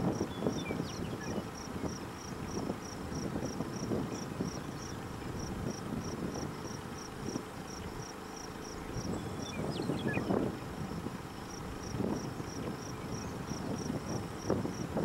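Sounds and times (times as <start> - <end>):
crickets chirping: 0.0 - 15.0
wind rumbling on microphone: 0.0 - 15.0.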